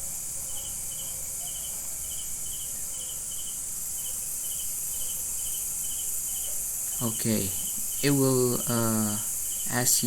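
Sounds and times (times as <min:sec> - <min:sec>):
insects chirping: 0:00.0 - 0:10.0
steady high hiss: 0:00.0 - 0:10.0.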